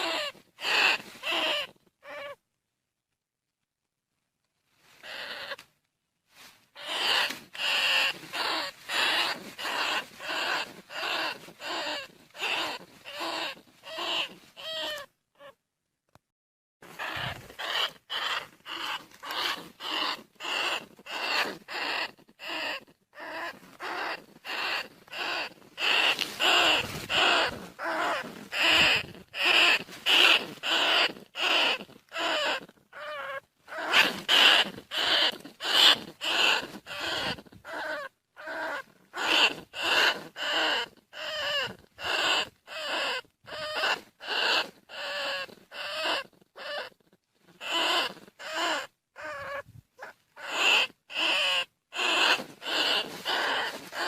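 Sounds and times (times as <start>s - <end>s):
rat squeaky cries: 0.0s - 2.4s, 5.0s - 5.7s, 6.8s - 15.6s, 16.9s - 54.0s.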